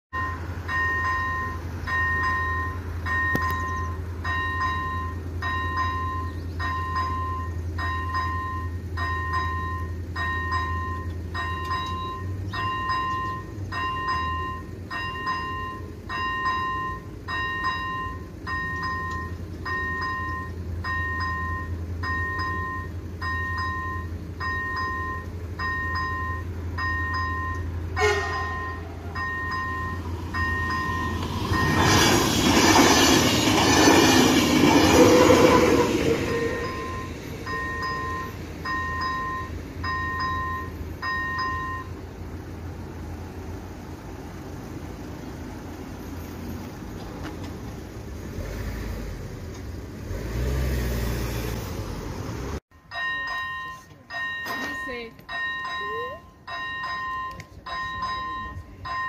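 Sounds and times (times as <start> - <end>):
level crossing warning bell: 0.1 - 43.6, 52.7 - 59.0.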